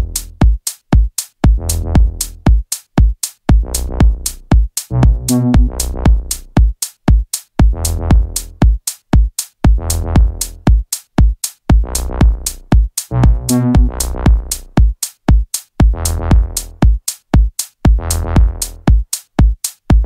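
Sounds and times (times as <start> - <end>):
electronic music with drum-machine beat: 0.0 - 20.0.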